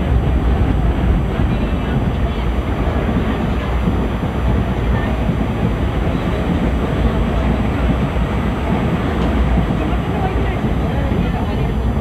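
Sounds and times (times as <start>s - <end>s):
train coach rumble: 0.0s - 12.0s.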